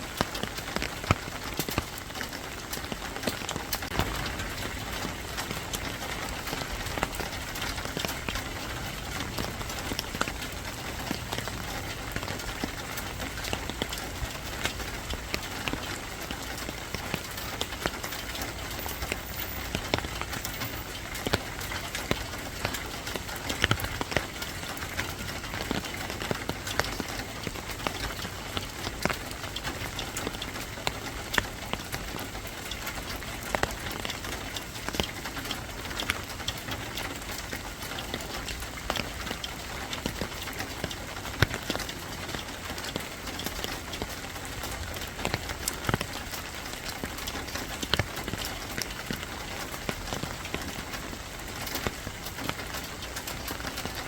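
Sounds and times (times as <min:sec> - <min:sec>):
sharp raindrops striking close: 0:00.0 - 0:54.0
steady rain falling: 0:00.0 - 0:54.0.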